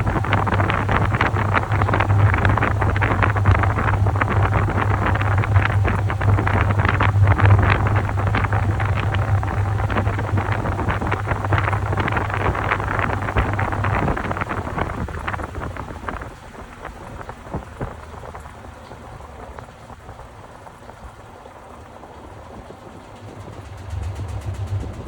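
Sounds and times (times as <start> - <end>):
washing machine motor hum: 0.0 - 25.0.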